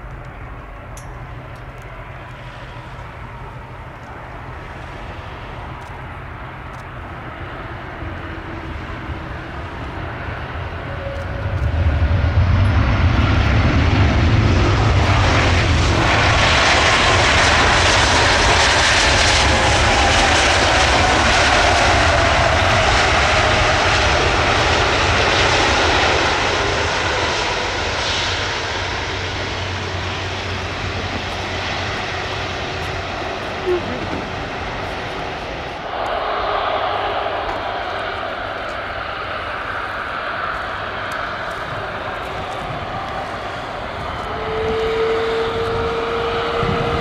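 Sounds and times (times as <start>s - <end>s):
jet engine roar: 0.0s - 47.0s
jet engine whine: 0.0s - 47.0s.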